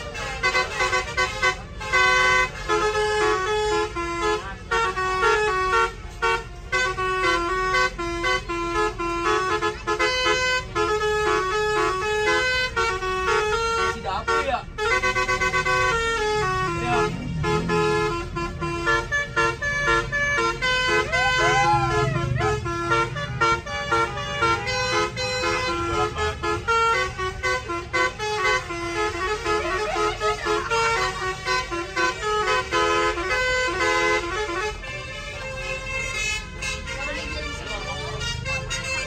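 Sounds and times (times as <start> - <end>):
bus musical air horn tune: 0.0 - 39.0
people's voices: 0.0 - 39.0.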